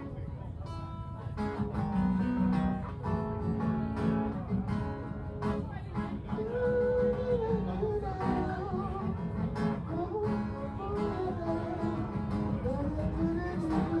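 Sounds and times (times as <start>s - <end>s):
live guitar music through a pa: 0.0s - 14.0s.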